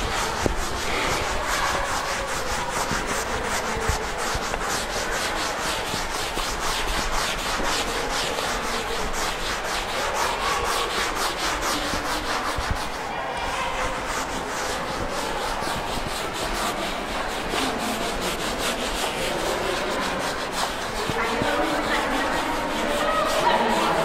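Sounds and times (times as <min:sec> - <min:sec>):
eraser wiping blackboard: 0:00.0 - 0:24.0.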